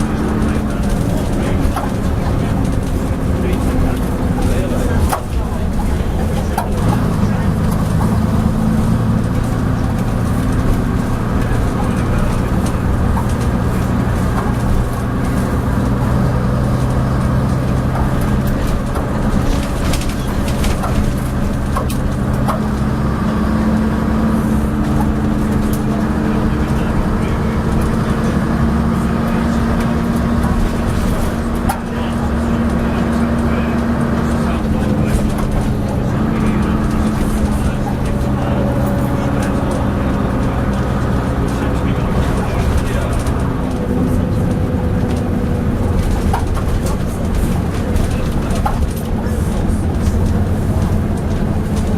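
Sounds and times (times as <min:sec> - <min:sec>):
bus clanking and rattling: 0:00.0 - 0:51.9
bus diesel engine running: 0:00.0 - 0:51.9.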